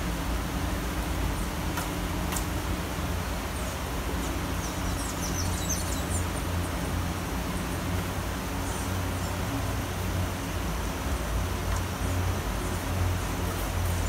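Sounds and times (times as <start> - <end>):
low traffic rumble: 0.0 - 14.0
rain hiss: 0.0 - 14.0.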